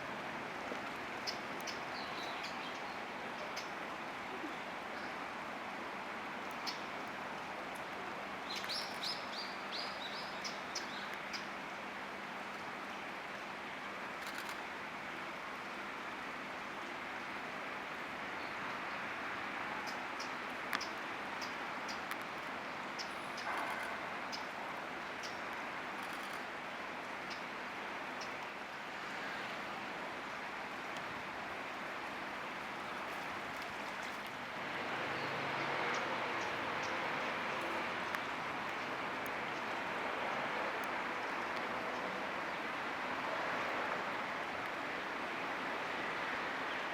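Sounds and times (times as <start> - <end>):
background hiss: 0.0 - 46.9
outdoor background rush: 0.0 - 46.9.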